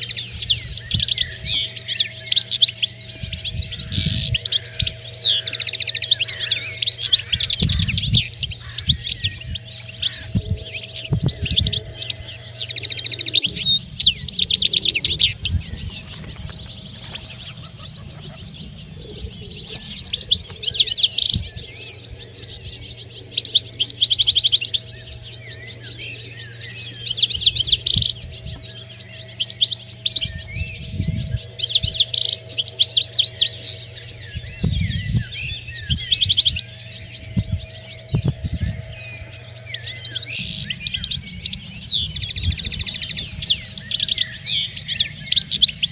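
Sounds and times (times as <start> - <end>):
finches twittering: 0.0 - 45.9.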